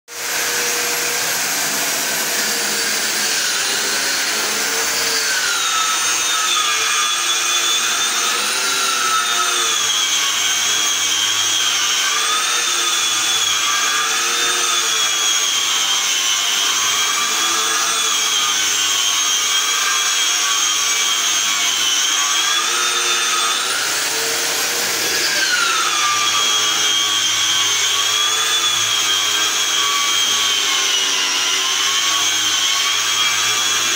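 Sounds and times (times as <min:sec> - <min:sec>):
electric sander on plaster: 0:00.1 - 0:33.9.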